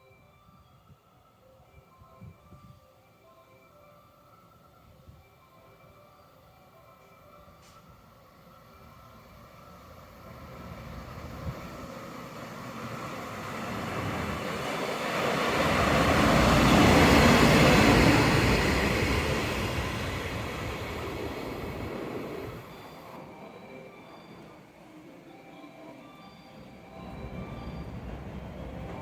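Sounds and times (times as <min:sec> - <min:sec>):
train passing on track: 0:02.5 - 0:29.0.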